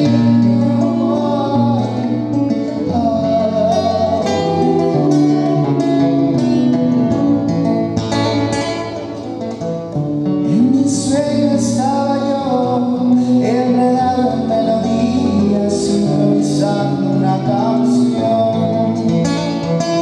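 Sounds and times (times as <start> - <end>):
man singing: 0.0 - 9.2, 10.4 - 20.0
acoustic guitar plucked: 0.0 - 20.0.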